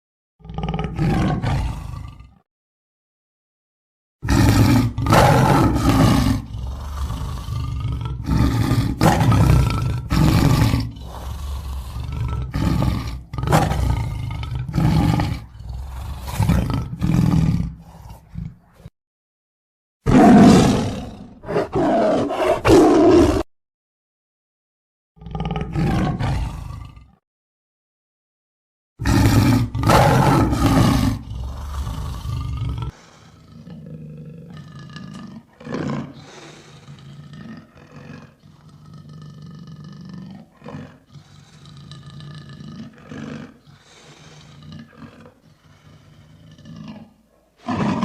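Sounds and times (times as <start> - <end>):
lion roaring: 0.4 - 2.4, 4.2 - 18.9, 20.1 - 23.5, 25.2 - 27.2, 29.0 - 48.0.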